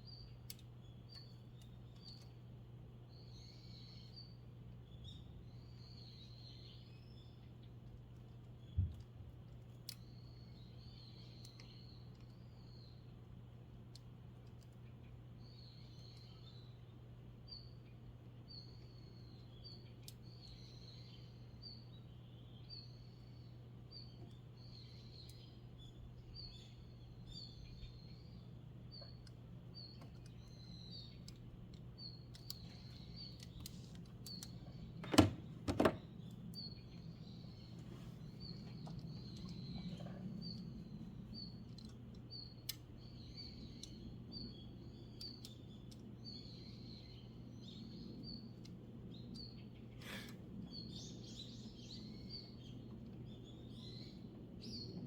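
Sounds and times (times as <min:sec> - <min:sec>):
bird chirping: 0:00.0 - 0:13.3, 0:13.9 - 0:55.0
steady low hum: 0:00.0 - 0:55.0.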